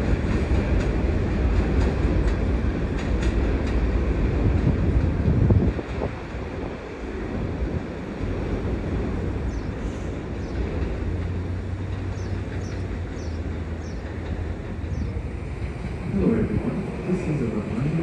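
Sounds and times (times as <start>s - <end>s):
subway train rumbling on track: 0.0s - 18.0s.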